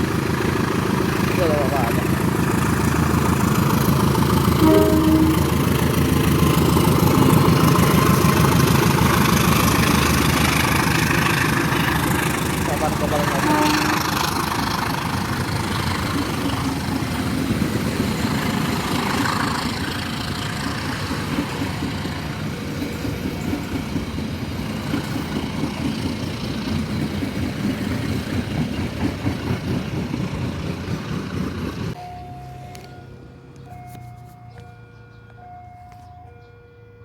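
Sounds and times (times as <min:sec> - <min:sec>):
rapid clattering of train: 0:00.0 - 0:32.0
train wheels rumbling on rails: 0:00.0 - 0:33.0.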